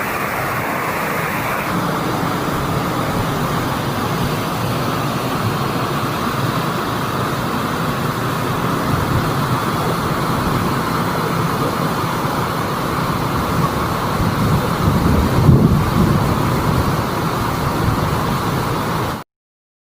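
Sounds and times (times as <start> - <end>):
waterfall rushing: 0.0 - 19.2.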